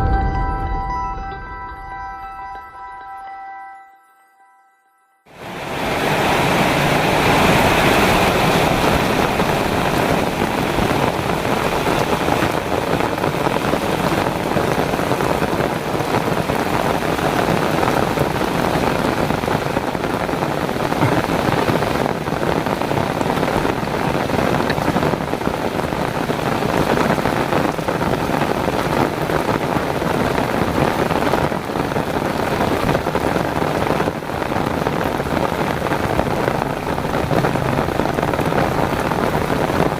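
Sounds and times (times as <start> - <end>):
heavy rain pouring: 5.3 - 39.9.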